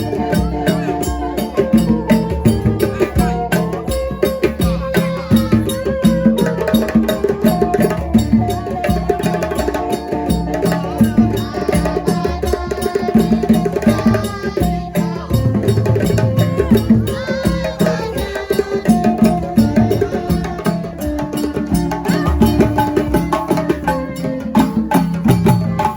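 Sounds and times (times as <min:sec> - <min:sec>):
drums beating fast rhythm: 0:00.0 - 0:25.9.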